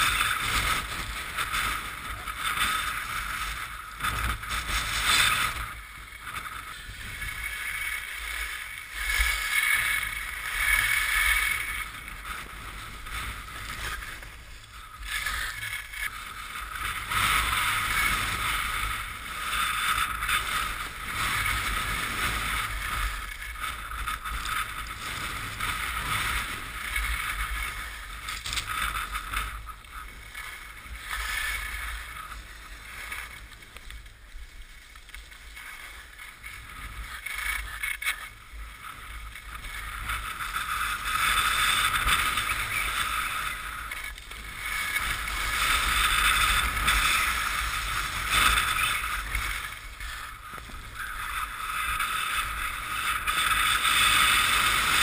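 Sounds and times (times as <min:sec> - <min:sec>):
skis scraping on snow: 0:00.0 - 0:55.0
wind rushing past camera: 0:00.0 - 0:55.0.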